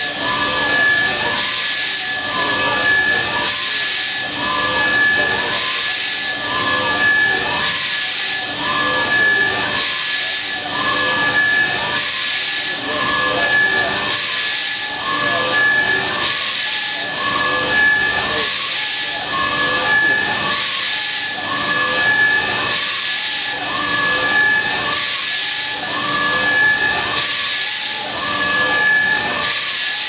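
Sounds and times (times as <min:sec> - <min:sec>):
router spindle whining: 0:00.0 - 0:30.0.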